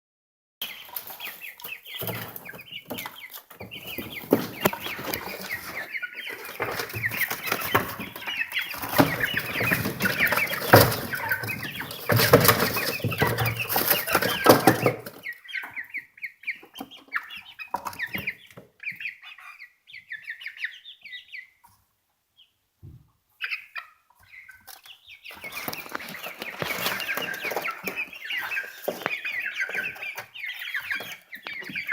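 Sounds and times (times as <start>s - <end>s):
birds clucking and chirping: 0.6s - 31.9s.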